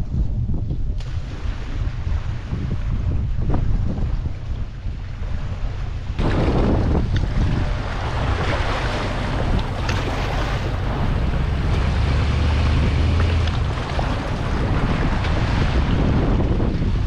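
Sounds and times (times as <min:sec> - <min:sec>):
wind buffeting microphone: 0:00.0 - 0:17.0
choppy water splashing: 0:00.1 - 0:17.0.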